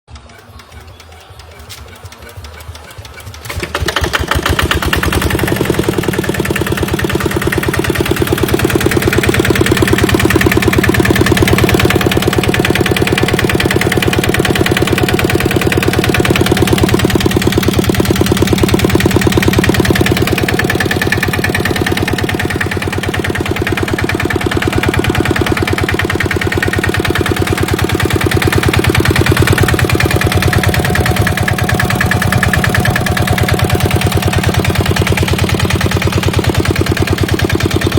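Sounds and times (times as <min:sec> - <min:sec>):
diesel engine chugging: 0:00.1 - 0:37.9.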